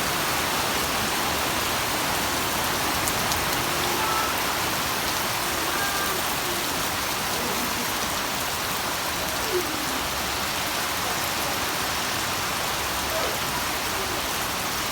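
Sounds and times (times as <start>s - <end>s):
heavy rain hissing: 0.0s - 14.9s.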